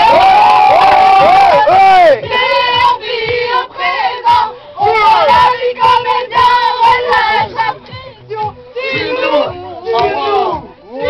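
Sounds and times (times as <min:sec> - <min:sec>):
young people chanting in unison: 0:01.4 - 0:11.0.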